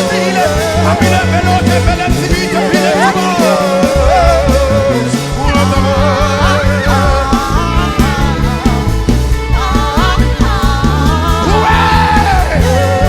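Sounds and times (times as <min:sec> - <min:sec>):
band playing: 0:00.0 - 0:13.0
person singing: 0:00.0 - 0:13.0.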